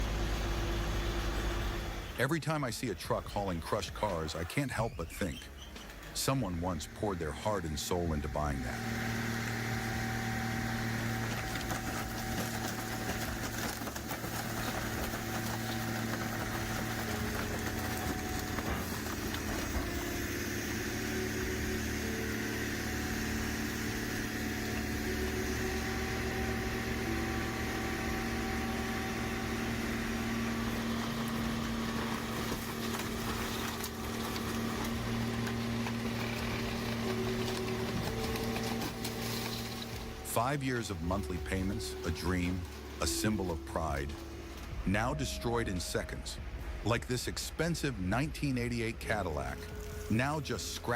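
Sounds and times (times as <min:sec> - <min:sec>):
heavy machine engine humming: 0:00.0 - 0:50.9.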